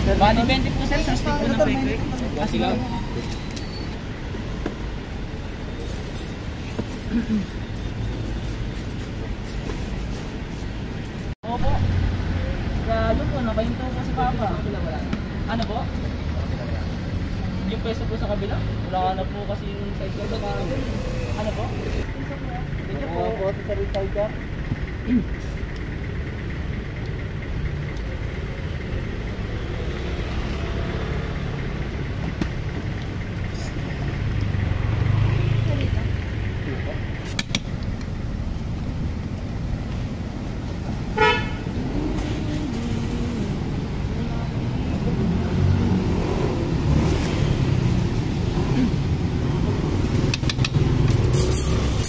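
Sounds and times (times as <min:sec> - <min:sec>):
street noise rumble: 0:00.0 - 0:52.0.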